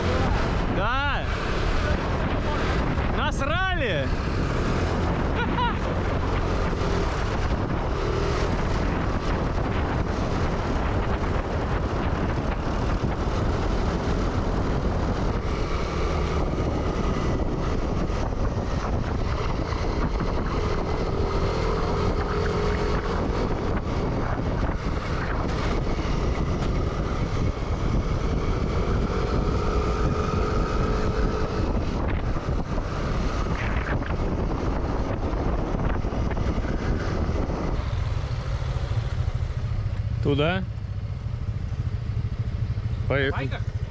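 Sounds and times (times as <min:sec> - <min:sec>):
motorbike engine: 0:00.0 - 0:43.9
road noise: 0:00.0 - 0:43.9
wind buffeting microphone: 0:00.0 - 0:43.9.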